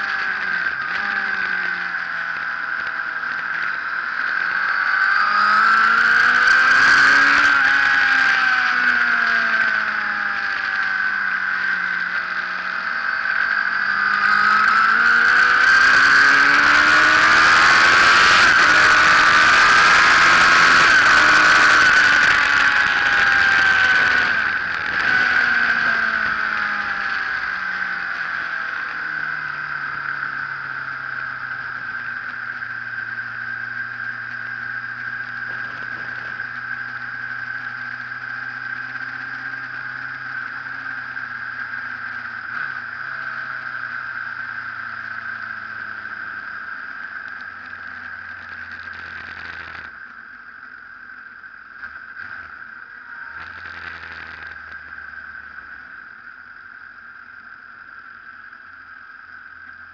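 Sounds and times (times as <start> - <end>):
motorcycle engine: 0.0 - 56.8.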